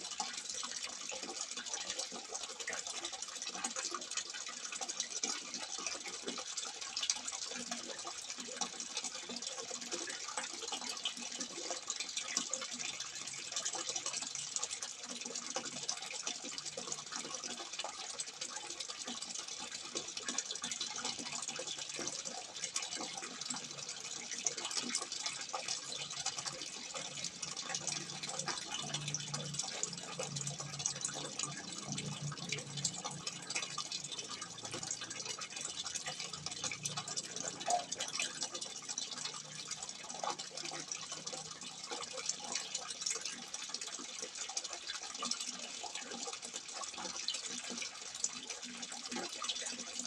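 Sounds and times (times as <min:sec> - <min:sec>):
water pouring and splashing: 0:00.0 - 0:50.0.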